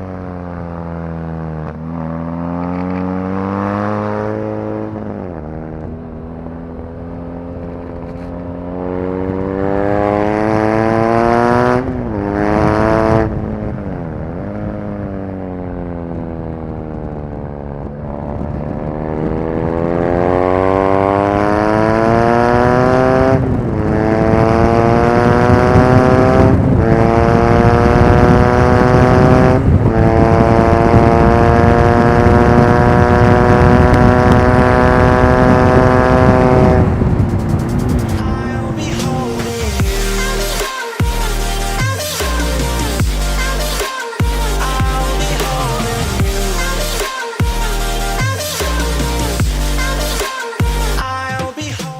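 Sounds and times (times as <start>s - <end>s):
motorcycle engine revving: 0.0s - 51.5s
motorcycle upshifting: 0.3s - 51.1s.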